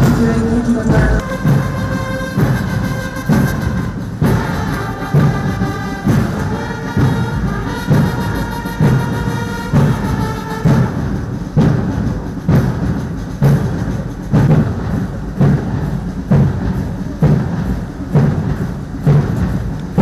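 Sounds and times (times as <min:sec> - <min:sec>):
marching drum beat: 0:00.0 - 0:20.0
military band tune: 0:00.0 - 0:20.0.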